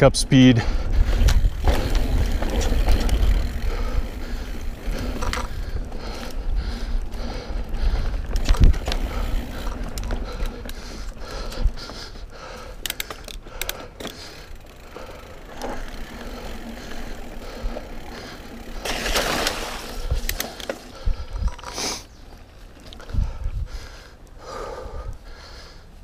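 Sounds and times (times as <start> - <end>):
bike clicks and rattles: 0.0 - 26.0
bike tyres on dirt: 0.0 - 26.0.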